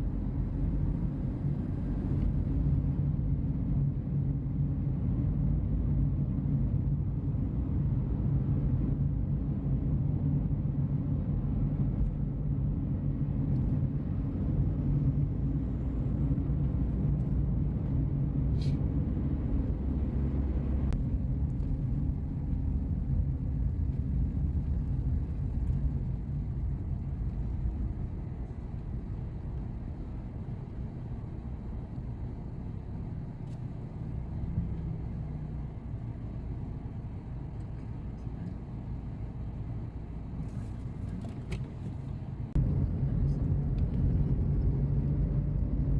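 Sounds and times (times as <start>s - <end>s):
low vehicle engine rumble: 0.0s - 45.9s.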